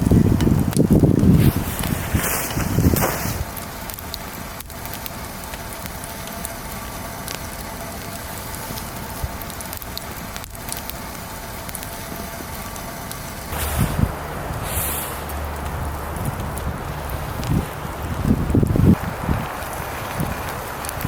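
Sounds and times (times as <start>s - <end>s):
campfire hissing and crackling: 0.0s - 21.0s.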